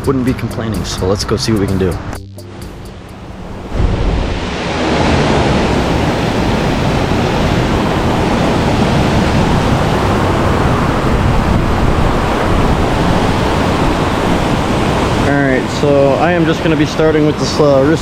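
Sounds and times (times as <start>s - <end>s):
water roaring over spillway: 3.3s - 18.0s.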